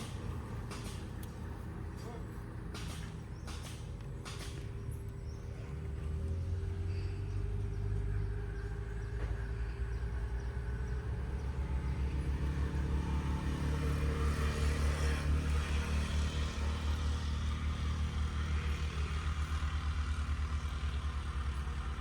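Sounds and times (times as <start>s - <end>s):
motor engine rumbling: 0.0s - 22.0s.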